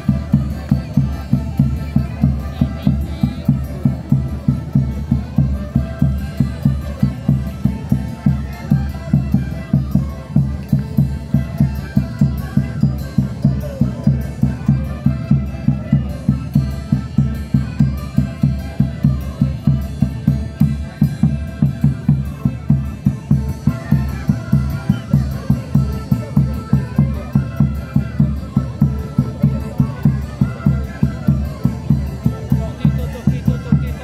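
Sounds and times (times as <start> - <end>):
band music with melody: 0.0 - 34.0.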